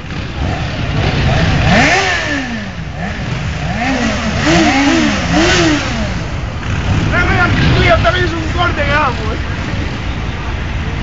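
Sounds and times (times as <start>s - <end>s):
motorcycle engine revving: 0.0s - 10.2s
other engines rumbling: 0.0s - 11.0s.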